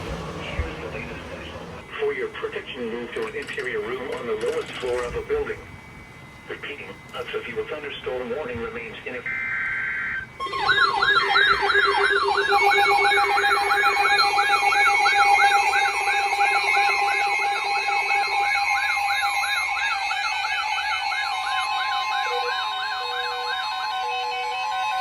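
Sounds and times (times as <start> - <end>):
steady alarm tones: 0.0 - 25.0
electronic siren yelping: 3.9 - 25.0.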